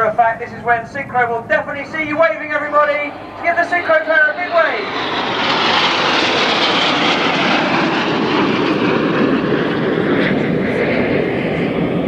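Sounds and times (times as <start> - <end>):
jet noise: 0.0 - 12.0.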